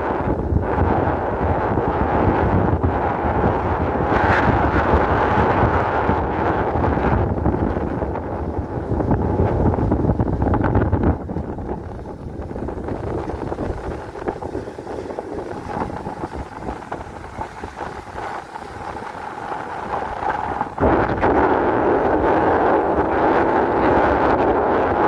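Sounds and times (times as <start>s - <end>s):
boat rushing through sea: 0.0s - 25.0s
wind buffeting microphone: 0.0s - 25.0s.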